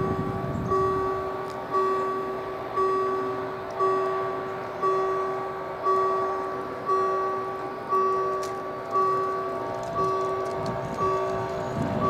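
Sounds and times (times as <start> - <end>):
level crossing bell ringing: 0.0 - 11.6.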